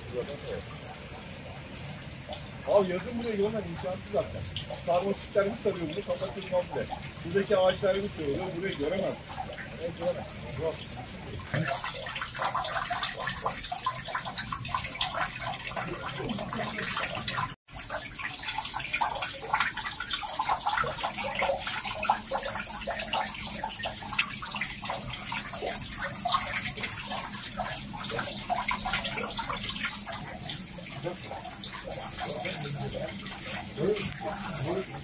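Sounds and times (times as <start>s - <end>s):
water dripping into a pool: 0.0s - 35.0s.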